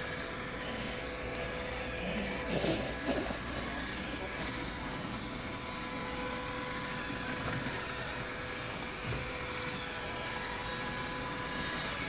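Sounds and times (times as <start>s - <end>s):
robot vacuums whirring: 0.0s - 12.0s.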